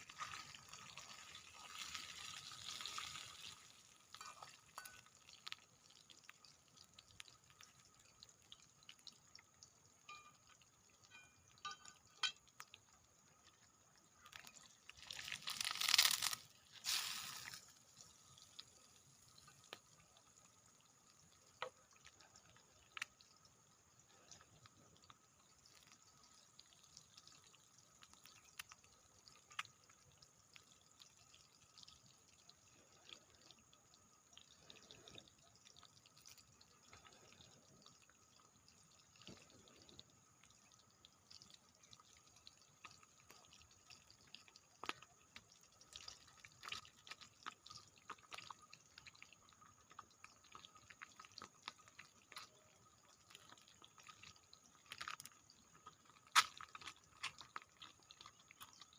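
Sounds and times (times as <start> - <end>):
faint small clicks and ticks: 0.0 - 58.9.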